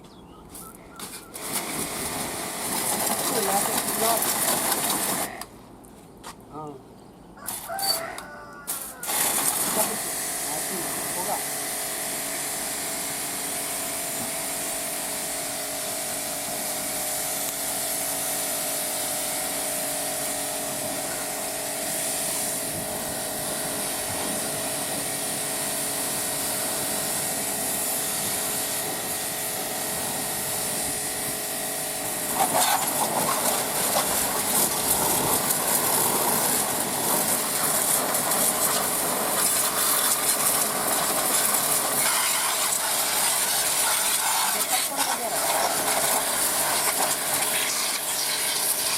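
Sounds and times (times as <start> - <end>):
pressure washer spray hissing: 1.4 - 5.4, 8.8 - 48.9.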